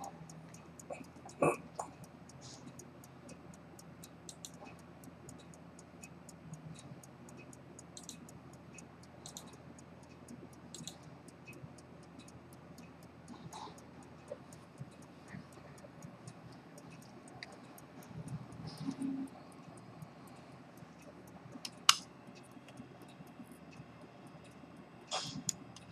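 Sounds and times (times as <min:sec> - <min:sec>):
pocket watch ticking: 0:00.0 - 0:25.9.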